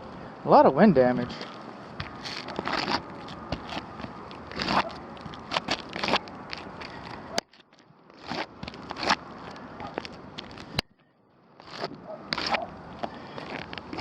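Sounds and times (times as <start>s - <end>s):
footsteps scuffing on shingles: 1.3s - 10.7s, 11.6s - 14.0s.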